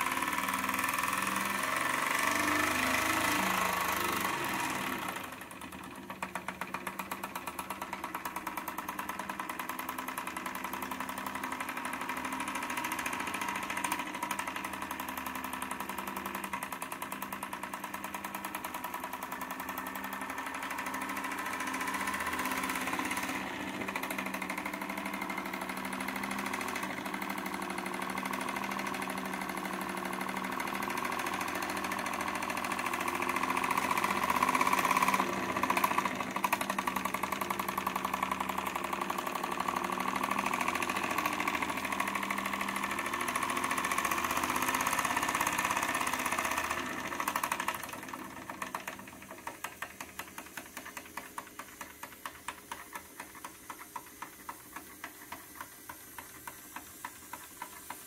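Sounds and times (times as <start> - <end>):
steam engine running: 0.0 - 58.0.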